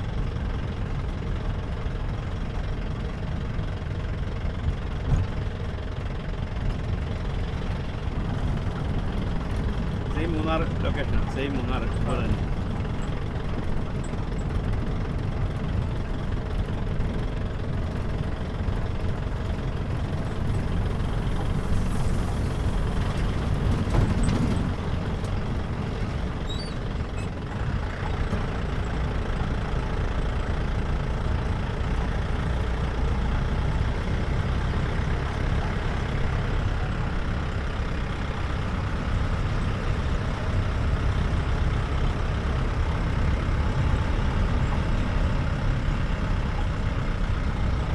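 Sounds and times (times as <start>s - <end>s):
car engine running: 0.0s - 47.9s
tyre and road noise: 5.0s - 47.9s.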